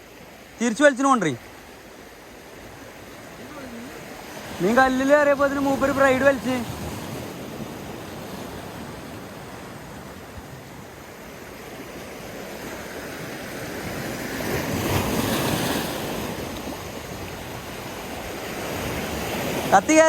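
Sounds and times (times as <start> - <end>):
waves washing: 0.0 - 20.0.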